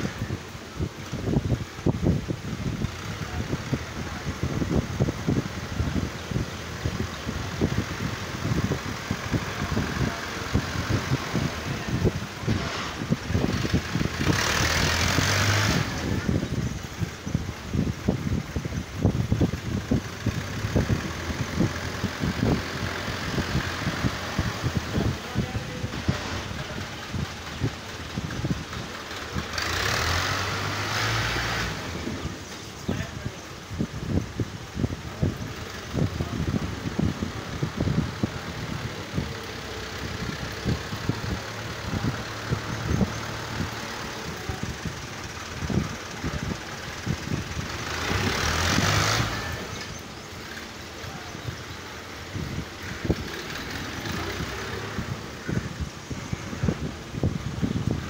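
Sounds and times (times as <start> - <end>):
broad rushing noise: 0.0 - 58.0
tractor diesel engine rumbling: 0.0 - 58.0.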